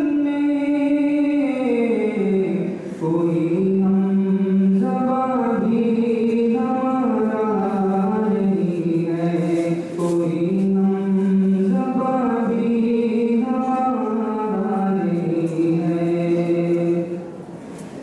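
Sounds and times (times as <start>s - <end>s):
man chanting into microphone: 0.0s - 17.3s.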